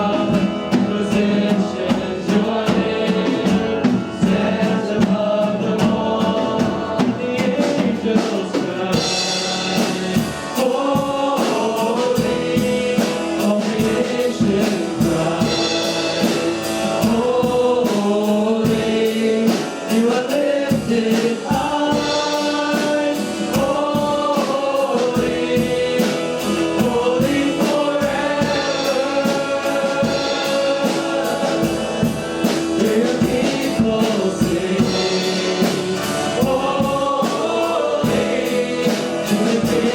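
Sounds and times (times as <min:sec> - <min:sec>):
group singing worship song: 0:00.0 - 0:39.9
instrumental accompaniment with beat: 0:00.0 - 0:39.9.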